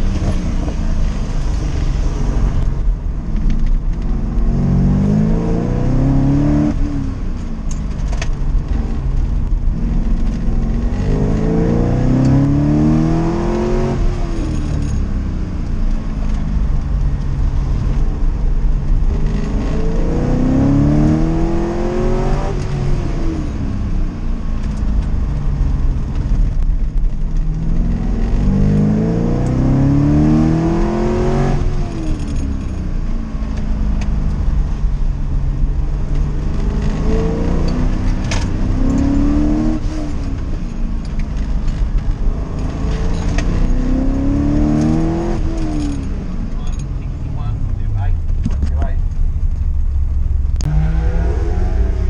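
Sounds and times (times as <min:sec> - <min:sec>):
car engine revving: 0:00.0 - 0:52.0
low road rumble: 0:00.0 - 0:52.0.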